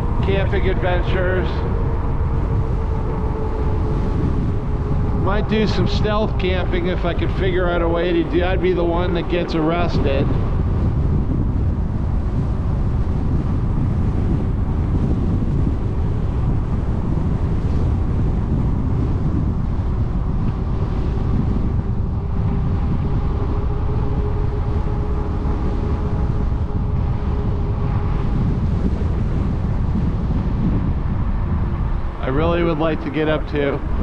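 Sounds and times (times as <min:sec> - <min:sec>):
faint even hum: 0:00.0 - 0:34.0
wind buffeting microphone: 0:00.0 - 0:34.0.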